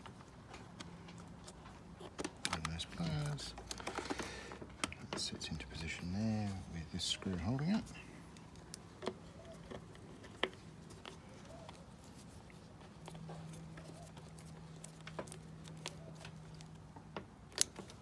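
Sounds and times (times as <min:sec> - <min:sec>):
plastic parts handled: 0:00.2 - 0:06.0, 0:07.0 - 0:18.0.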